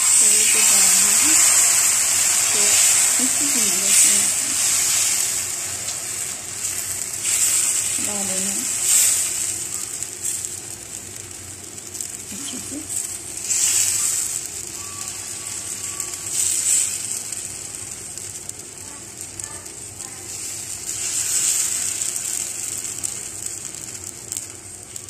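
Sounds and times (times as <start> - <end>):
batter sizzling on a hot pan: 0.0 - 25.0.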